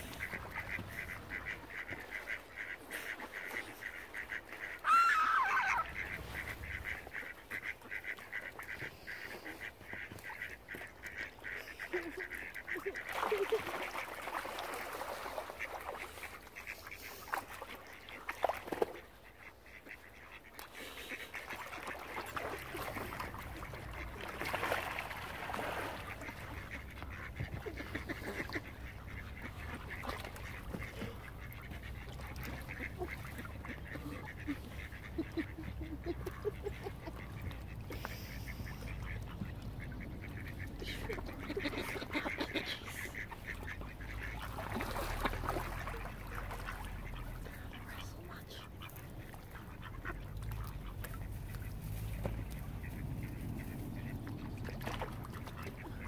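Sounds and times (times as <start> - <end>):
ducks quacking: 0.0 - 56.0.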